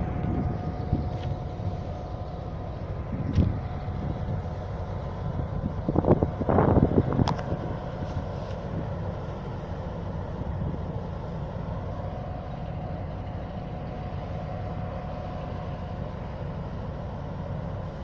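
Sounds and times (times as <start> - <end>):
diesel engine idling: 0.0 - 18.0
thin steady whine: 0.0 - 18.0.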